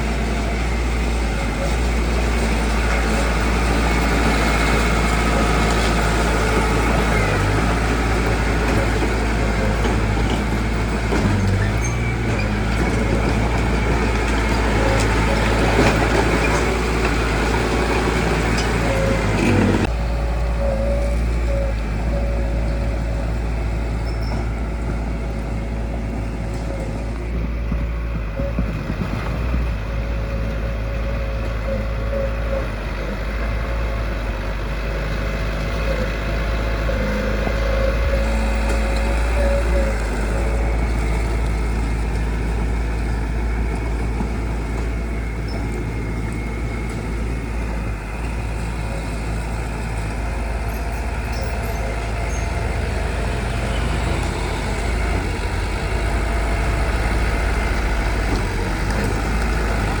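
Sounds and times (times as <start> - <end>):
heavy machinery engine running: 0.0 - 60.0.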